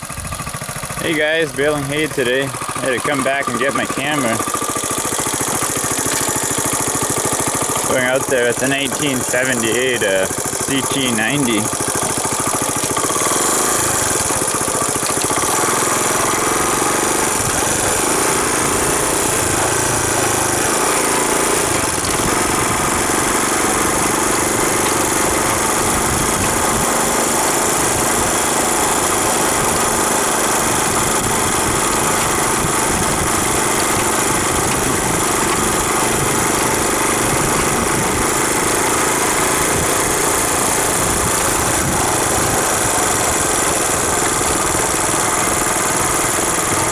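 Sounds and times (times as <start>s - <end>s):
small motorcycle engine running: 0.0s - 46.9s.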